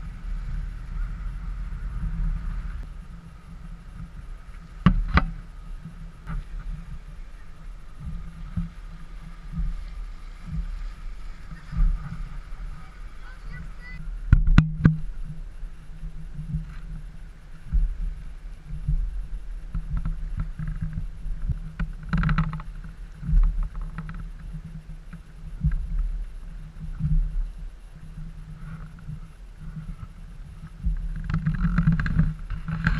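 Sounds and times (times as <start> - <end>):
outboard engine droning: 0.0 - 32.9.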